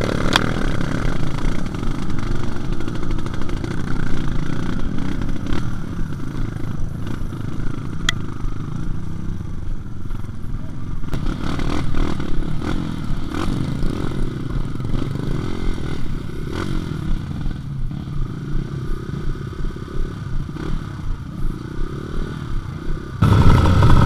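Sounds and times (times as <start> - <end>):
dirt bike engine: 0.0 - 24.0.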